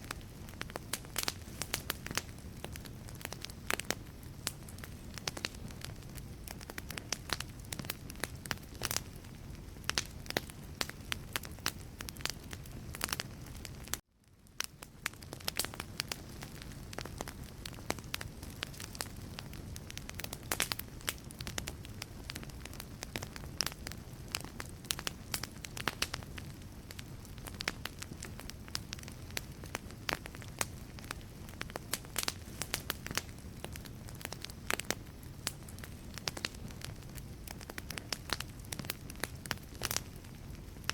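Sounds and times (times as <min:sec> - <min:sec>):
logs crackling and popping: 0:00.0 - 0:40.9
low rumble of flame: 0:00.0 - 0:40.9.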